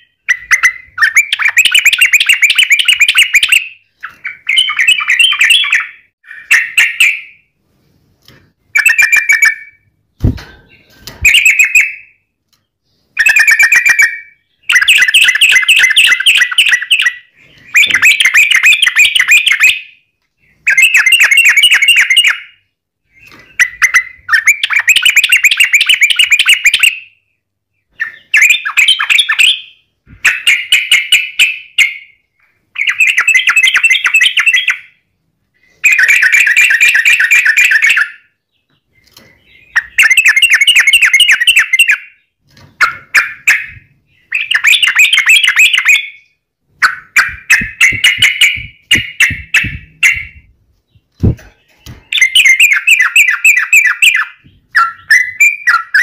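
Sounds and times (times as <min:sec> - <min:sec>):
bird chattering song: 0:00.0 - 0:07.4, 0:08.7 - 0:56.0.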